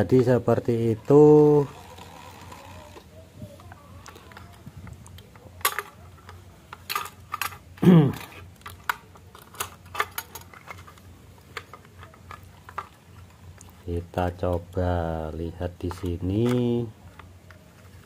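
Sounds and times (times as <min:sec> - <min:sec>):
plastic parts clicking and knocking: 0:01.1 - 0:14.7, 0:15.8 - 0:18.0.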